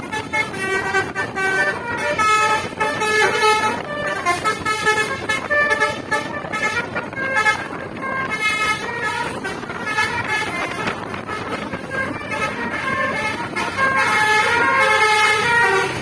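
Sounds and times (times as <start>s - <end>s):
bus musical horn playing tune: 0.0s - 16.0s.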